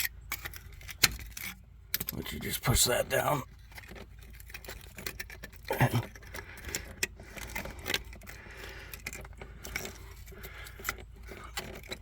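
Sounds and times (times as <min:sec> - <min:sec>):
light metallic rattles: 0:00.0 - 0:12.0.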